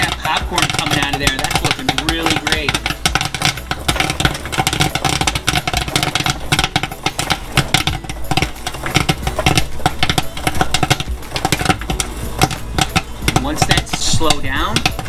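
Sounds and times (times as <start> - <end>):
popcorn popping: 0.0 - 15.0
stirring motor humming: 0.0 - 15.0.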